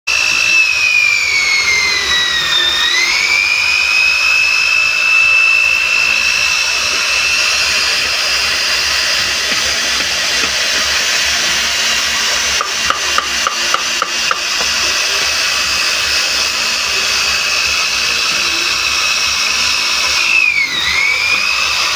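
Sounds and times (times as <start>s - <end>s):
router spindle whine: 0.0s - 21.9s
bit cutting wood: 0.1s - 21.9s.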